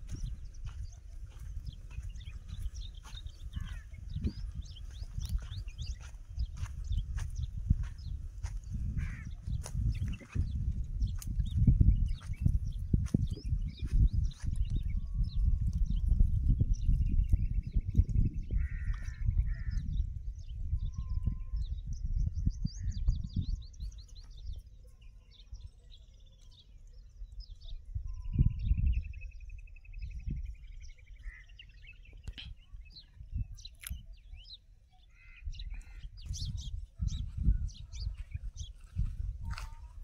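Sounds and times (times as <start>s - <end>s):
birds trilling: 0.0s - 20.0s, 22.7s - 40.0s.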